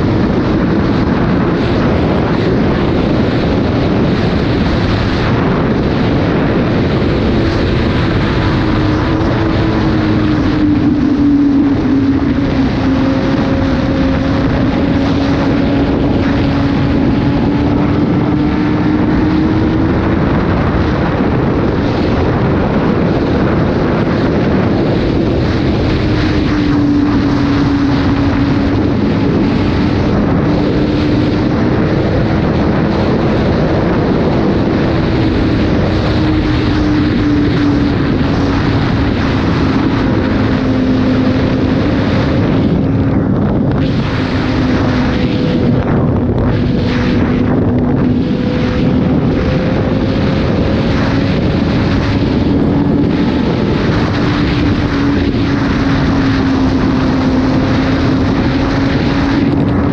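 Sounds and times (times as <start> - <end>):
heavy wind noise: 0.0 - 59.9
motorcycle engine cruising: 0.0 - 59.9.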